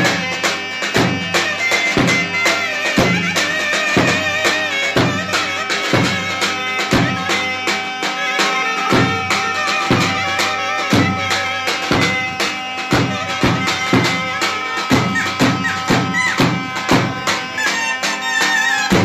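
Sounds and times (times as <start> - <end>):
clarinet folk melody: 0.0 - 19.0
steady drum beat: 0.0 - 19.0.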